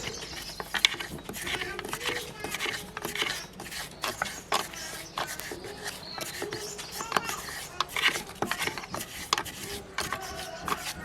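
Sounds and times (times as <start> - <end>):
background voices talking: 0.0 - 11.0
sharp clicks and taps: 0.0 - 11.0.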